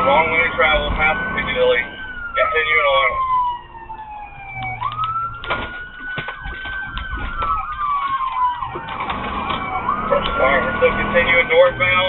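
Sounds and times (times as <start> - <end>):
police siren wailing: 0.0 - 12.0
second siren rising and falling: 0.0 - 12.0.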